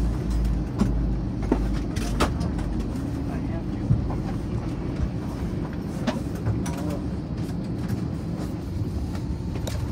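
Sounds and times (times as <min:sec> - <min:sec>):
airliner cabin low rumble: 0:00.0 - 0:09.9.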